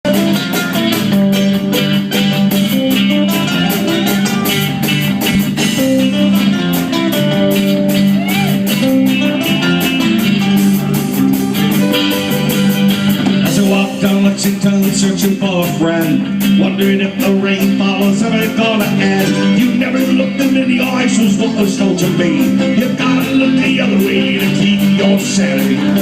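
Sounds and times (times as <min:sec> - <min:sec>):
lead guitar: 0:00.0 - 0:26.0
rock band playing: 0:00.0 - 0:26.0.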